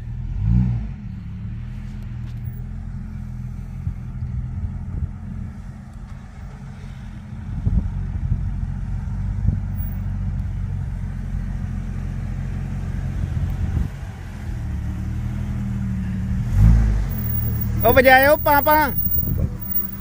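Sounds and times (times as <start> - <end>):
off-road vehicle engine running: 0.0 - 20.0.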